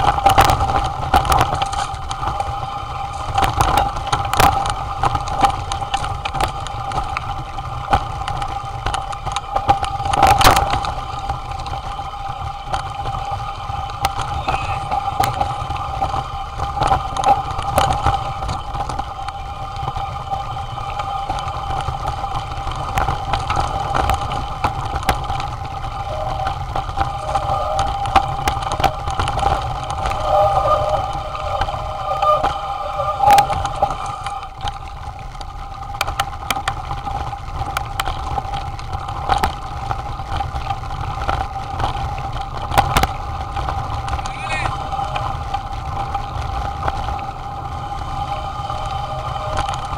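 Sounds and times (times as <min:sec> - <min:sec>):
bike rattling over stones: 0:00.0 - 0:49.9
steady whine: 0:00.0 - 0:49.9.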